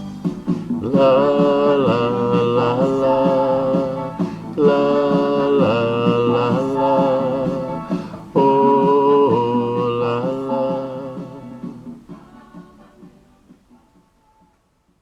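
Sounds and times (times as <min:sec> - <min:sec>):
backing track with guitar: 0:00.0 - 0:14.2
man singing: 0:00.7 - 0:13.0.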